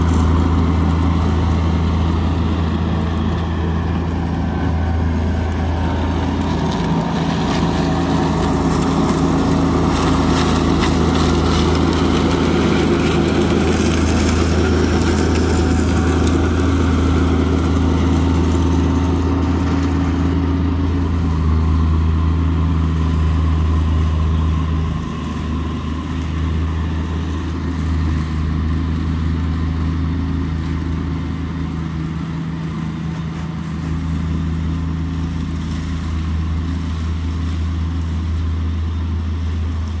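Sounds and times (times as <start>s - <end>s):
air and leaves rushing hiss: 0.0s - 40.0s
mower engine drone: 0.0s - 40.0s.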